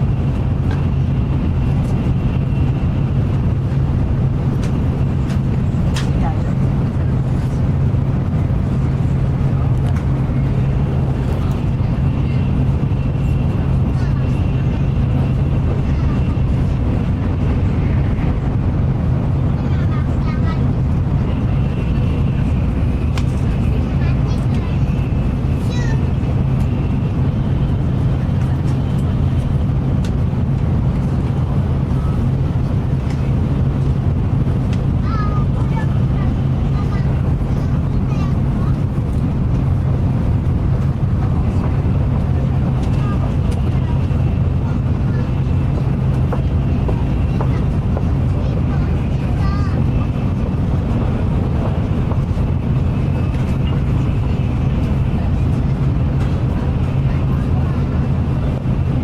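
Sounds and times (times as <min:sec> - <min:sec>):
train running noise from inside: 0:00.0 - 0:59.0.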